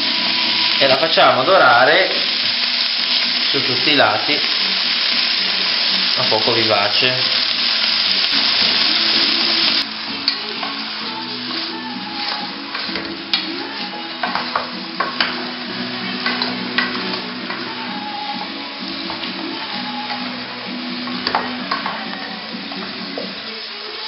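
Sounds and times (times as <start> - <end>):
meat sizzling in oil: 0.0 - 24.0
soft background music: 0.0 - 24.0.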